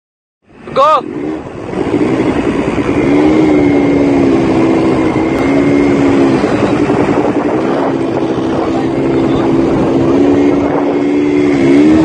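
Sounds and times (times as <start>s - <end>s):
quad bike engines revving: 0.5s - 12.0s.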